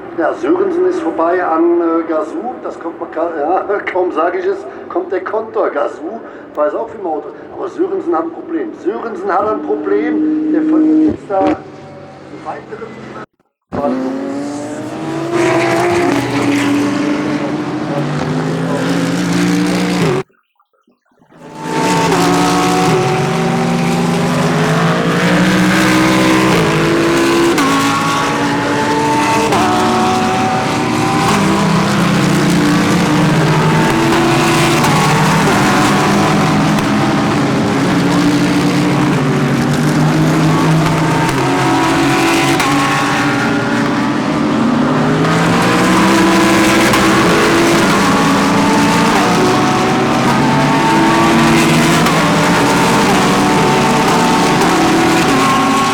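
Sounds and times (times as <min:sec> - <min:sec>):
race cars accelerating past: 0:08.7 - 0:20.3, 0:21.3 - 0:55.9.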